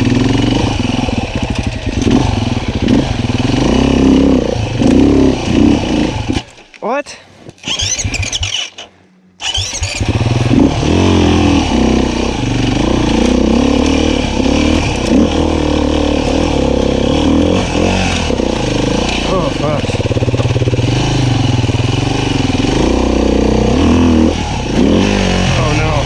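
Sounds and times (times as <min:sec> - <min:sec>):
dirt bike engine revving: 0:00.0 - 0:06.5, 0:07.6 - 0:26.0.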